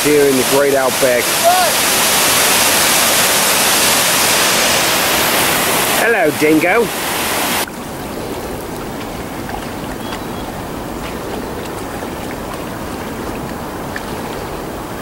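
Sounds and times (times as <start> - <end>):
water washing on rocky shore: 0.0 - 15.0
waterfall rushing: 0.0 - 15.0.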